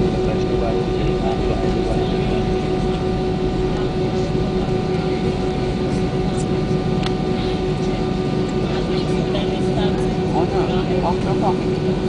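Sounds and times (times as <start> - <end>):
jet engines humming: 0.0 - 12.0
steady whine: 0.0 - 12.0.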